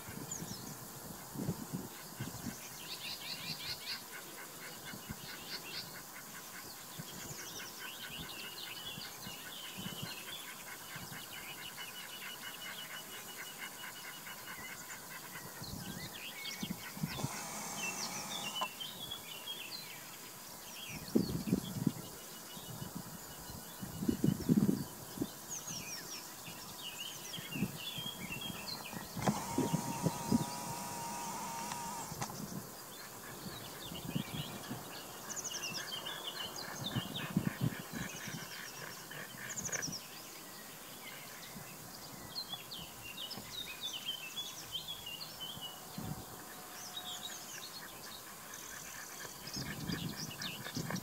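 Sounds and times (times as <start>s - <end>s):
small birds chirping and singing: 0.0s - 51.0s.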